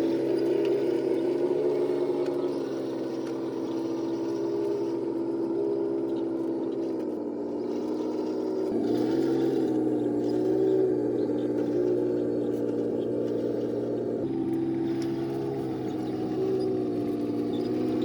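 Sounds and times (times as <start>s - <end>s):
electric motors whining: 0.0s - 18.0s.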